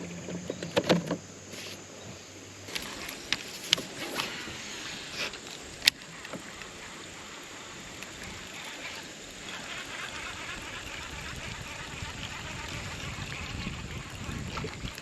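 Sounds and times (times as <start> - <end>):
water and wind hissing: 0.0 - 15.0.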